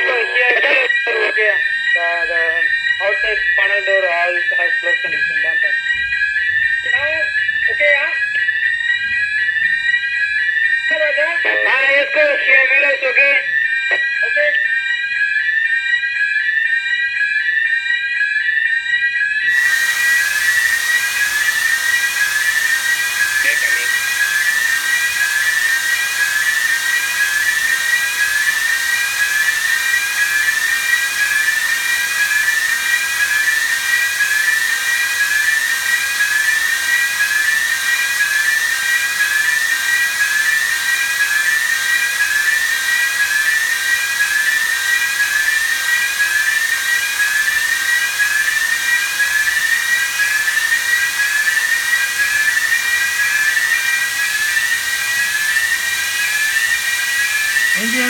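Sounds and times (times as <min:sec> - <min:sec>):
electronic alarm rising sweep: 0:00.0 - 0:58.0.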